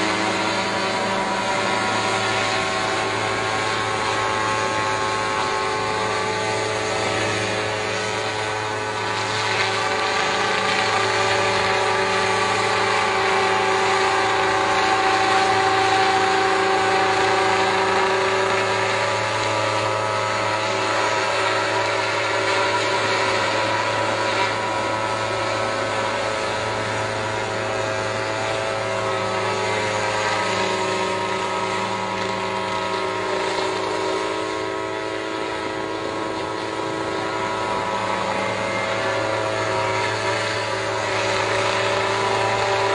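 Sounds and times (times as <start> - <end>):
drone propellers humming: 0.0 - 42.9.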